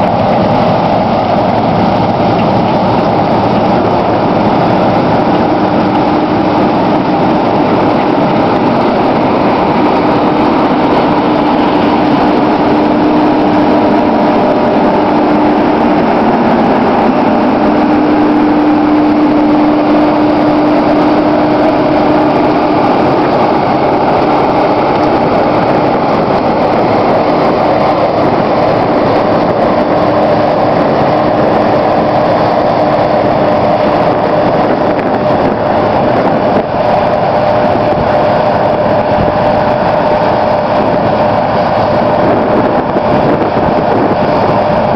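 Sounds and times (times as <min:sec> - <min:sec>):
combine harvester drone: 0:00.0 - 0:44.9.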